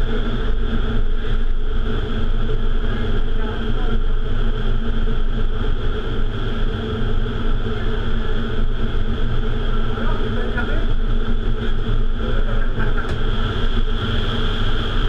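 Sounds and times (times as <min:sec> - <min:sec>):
fan hum: 0:00.0 - 0:15.0
rush of air buffeting microphone: 0:00.0 - 0:15.0.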